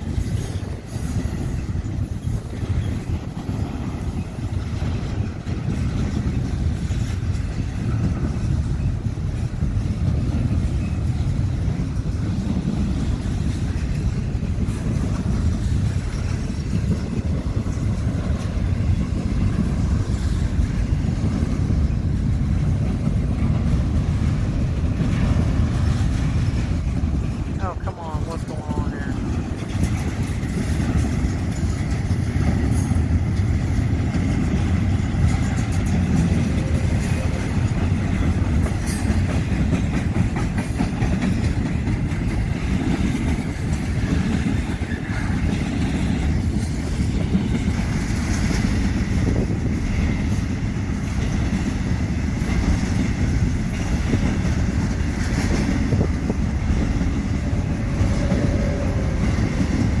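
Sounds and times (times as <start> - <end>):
train wheel clicks: 0.0 - 27.6, 28.7 - 60.0
freight train rumbling: 0.0 - 60.0.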